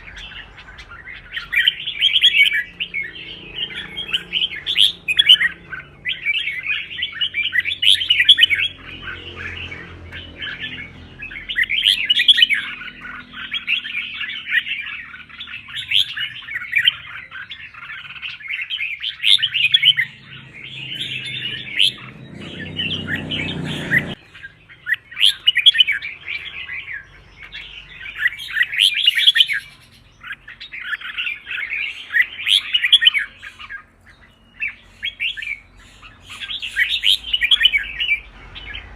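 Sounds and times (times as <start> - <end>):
bird singing chattering warbles: 0.0 - 38.9.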